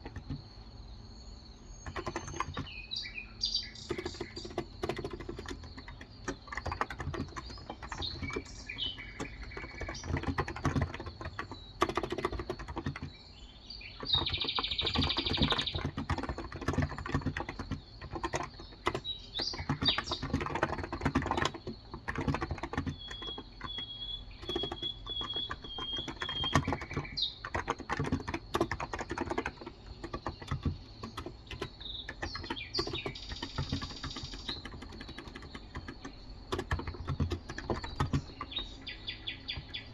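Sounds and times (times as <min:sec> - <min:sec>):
keyboard typing: 0:00.0 - 0:02.9, 0:03.7 - 0:39.9
birds chirping: 0:00.0 - 0:39.9.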